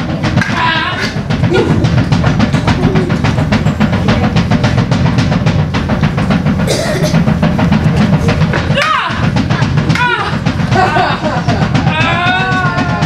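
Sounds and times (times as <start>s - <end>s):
fast drum kit roll: 0.0s - 13.0s.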